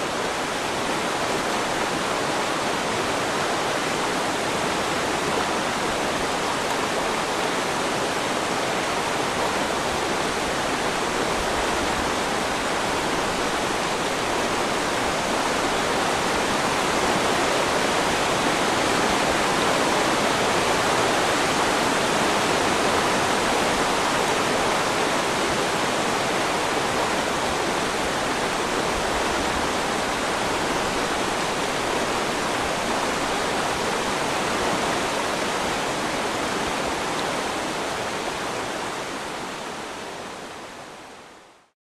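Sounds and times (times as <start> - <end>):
waterfall roaring: 0.0 - 41.7.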